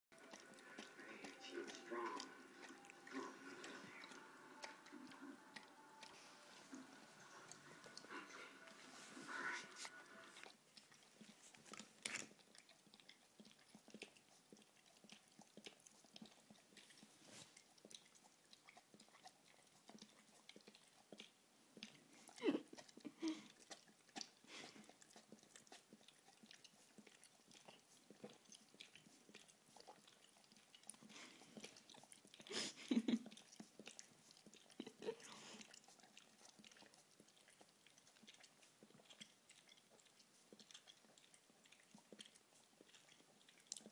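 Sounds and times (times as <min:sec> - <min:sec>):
dog licking and chewing: 0:00.1 - 0:43.9.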